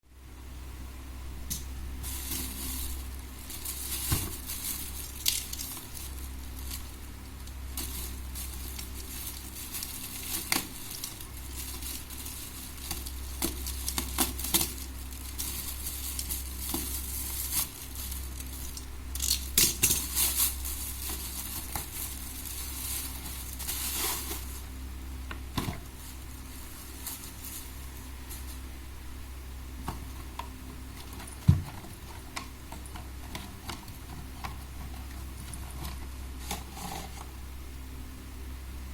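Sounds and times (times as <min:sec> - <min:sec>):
packaging crinkling and rustling: 0:02.0 - 0:28.7, 0:29.8 - 0:37.3.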